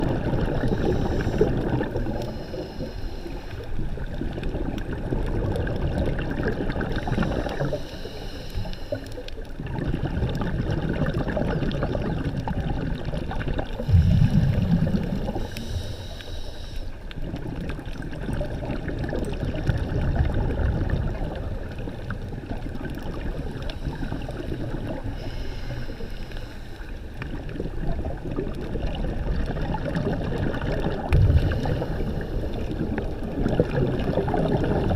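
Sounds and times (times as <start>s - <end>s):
water sloshing and gurgling: 0.0s - 34.9s.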